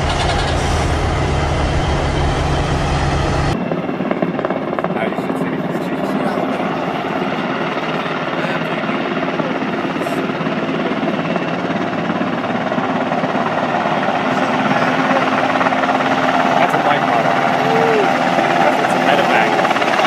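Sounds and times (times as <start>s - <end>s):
helicopter rotor blades chopping: 0.0s - 20.0s
turbine engine whine: 0.0s - 20.0s.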